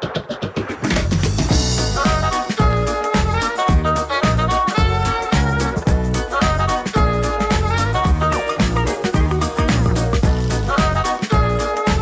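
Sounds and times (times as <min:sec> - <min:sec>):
upbeat funk music: 0:00.0 - 0:12.0.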